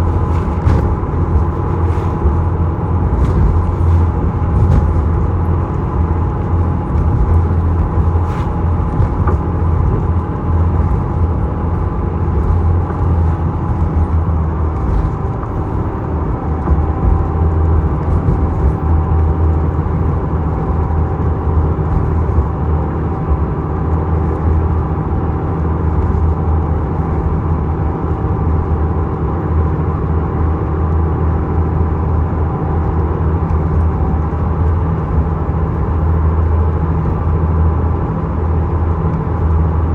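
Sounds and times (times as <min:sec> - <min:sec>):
ferry engine droning: 0:00.0 - 0:39.9.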